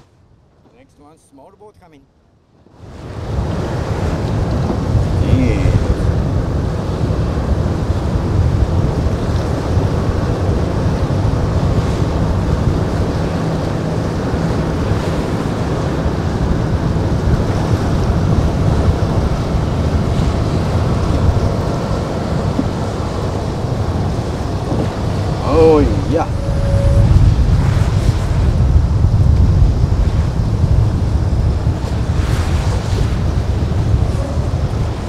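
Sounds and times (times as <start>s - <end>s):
surf and breaking waves: 2.5s - 35.0s
wind buffeting microphone: 2.7s - 35.0s.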